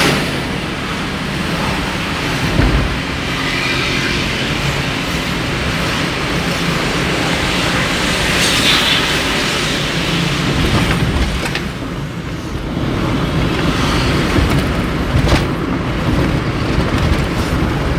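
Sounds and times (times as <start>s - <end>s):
car cabin road noise: 0.0s - 17.9s.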